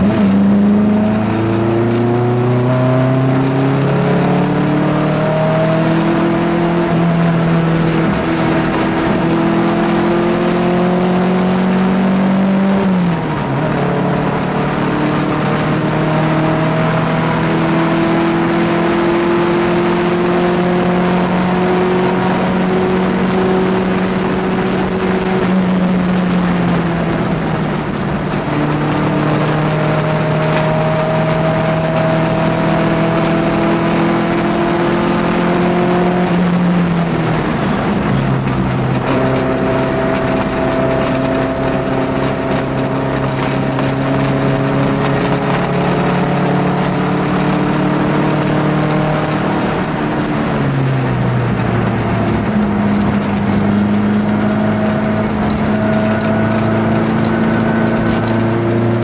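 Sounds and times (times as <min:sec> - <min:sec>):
car engine revving at speed: 0:00.0 - 0:59.0.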